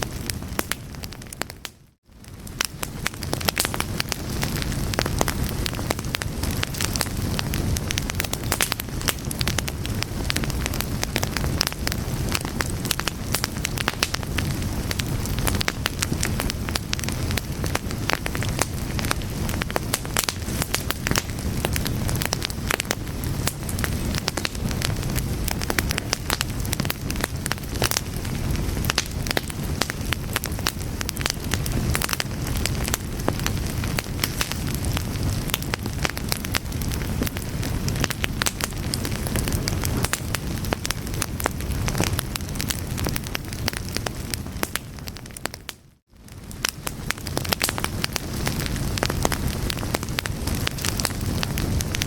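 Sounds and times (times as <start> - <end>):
fire crackling: 0.0 - 52.0
rush of flame: 0.0 - 52.0.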